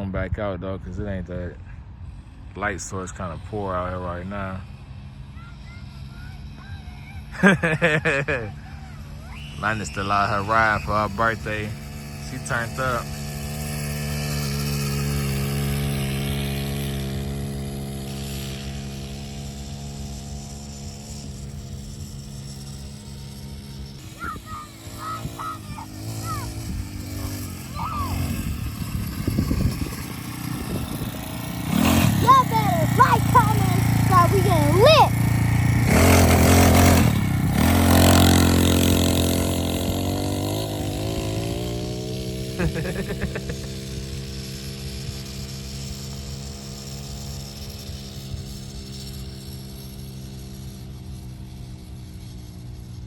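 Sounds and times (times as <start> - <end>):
engine running steadily: 0.2 - 53.0.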